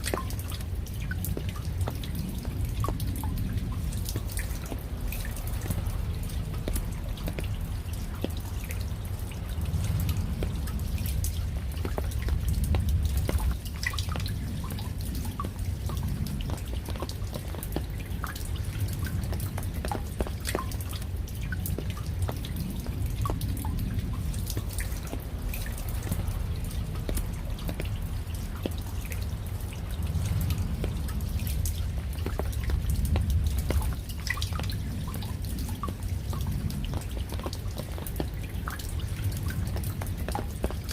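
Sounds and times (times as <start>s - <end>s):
raindrops dripping: 0.0s - 40.9s.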